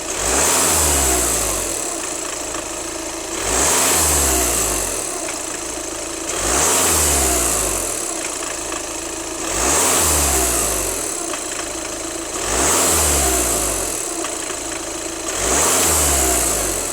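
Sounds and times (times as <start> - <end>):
diesel engine revving: 0.0 - 2.3, 3.2 - 8.5, 9.2 - 16.9.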